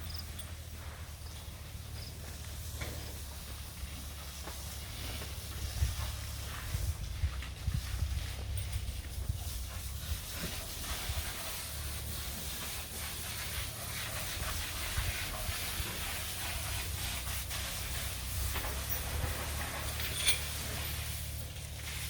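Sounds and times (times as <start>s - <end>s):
water spraying from hose: 0.0s - 22.0s.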